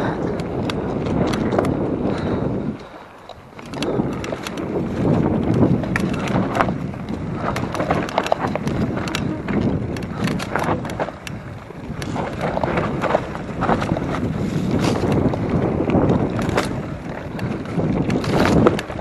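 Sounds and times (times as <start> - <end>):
bike clicks and rattles: 0.0 - 19.0
bike tyre noise: 0.0 - 19.0
wind on microphone: 0.0 - 19.0.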